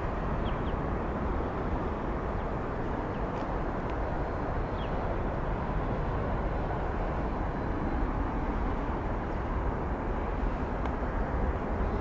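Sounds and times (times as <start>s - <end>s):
distant jet engines rumbling: 0.0s - 12.0s.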